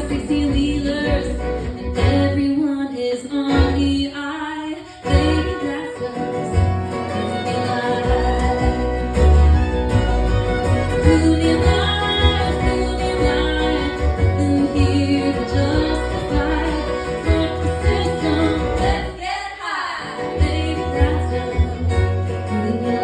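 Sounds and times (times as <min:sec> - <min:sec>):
woman singing: 0:00.0 - 0:09.3, 0:11.0 - 0:23.0
live band with guitar: 0:00.0 - 0:23.0.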